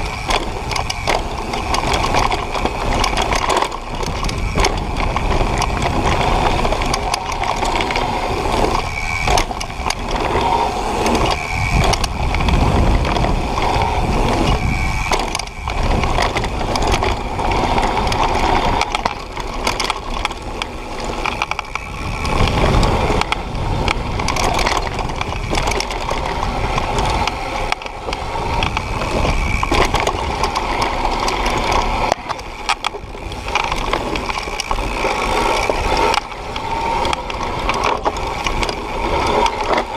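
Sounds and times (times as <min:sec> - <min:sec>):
bike knocks and rattles: 0:00.0 - 0:39.9
tyre rumble and crunch on gravel: 0:00.0 - 0:39.9
wind on microphone: 0:00.0 - 0:39.9.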